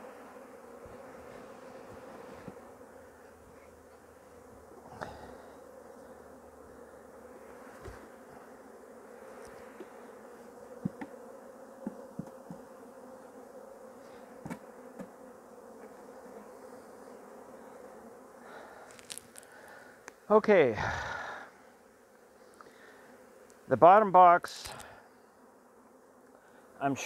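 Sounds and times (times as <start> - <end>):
honeybees buzzing: 0.0 - 27.0.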